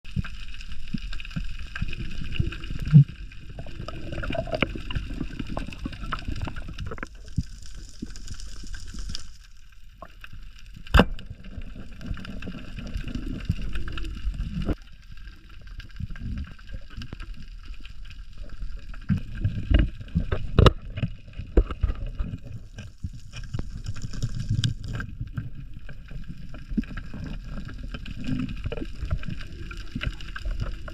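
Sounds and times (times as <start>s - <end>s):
water gurgling and sloshing: 0.1s - 30.9s.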